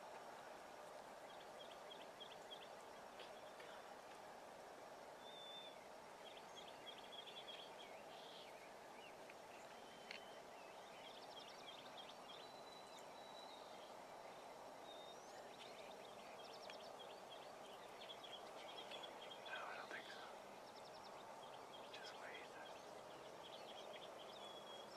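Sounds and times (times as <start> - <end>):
low background noise: 0.0 - 24.9
songbirds chirping and trilling: 0.0 - 24.9.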